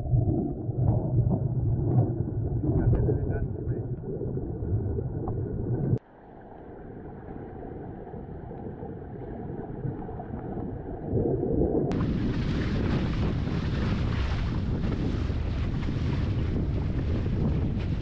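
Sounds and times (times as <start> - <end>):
wind rumbling on microphone: 0.0 - 6.0, 6.6 - 18.0
water rushing past: 0.0 - 18.0.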